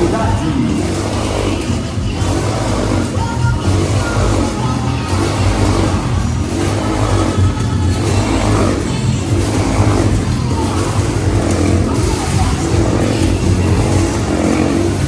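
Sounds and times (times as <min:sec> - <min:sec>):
motorcycle engines revving: 0:00.0 - 0:15.0
steady low drone: 0:00.0 - 0:15.0.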